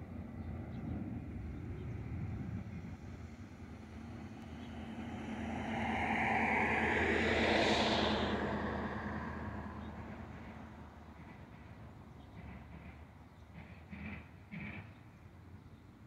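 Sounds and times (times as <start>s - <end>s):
diesel train rumble: 0.0s - 16.0s.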